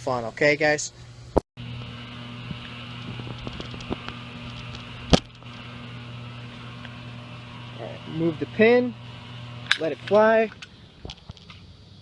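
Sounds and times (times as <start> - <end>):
low hum: 0.9 - 12.0.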